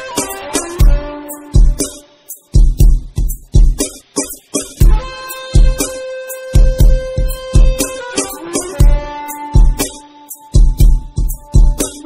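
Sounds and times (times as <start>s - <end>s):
music with heavy drum beat: 0.0s - 12.0s.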